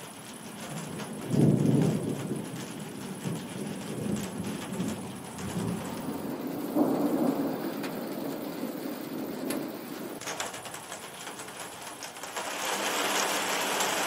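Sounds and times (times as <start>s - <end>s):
thunder rumbling: 0.0s - 11.6s
steady rain: 0.0s - 14.0s.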